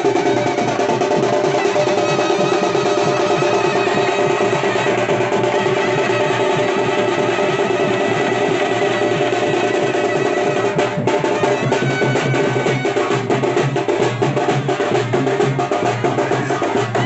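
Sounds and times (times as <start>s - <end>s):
fast frame drumming: 0.0s - 17.0s.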